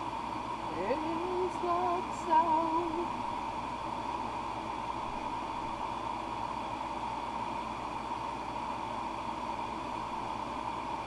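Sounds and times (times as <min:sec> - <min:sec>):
electric fans hissing: 0:00.0 - 0:11.0
faint hum: 0:00.0 - 0:11.0.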